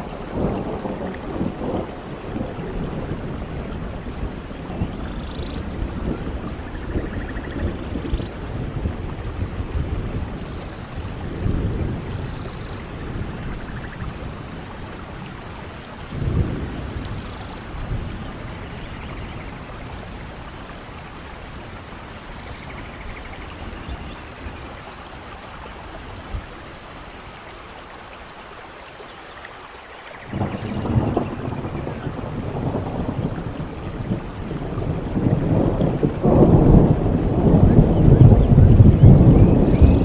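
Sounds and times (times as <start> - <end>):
thunder rumbling: 0.0 - 26.6, 30.2 - 40.0
steady rain: 0.0 - 40.0.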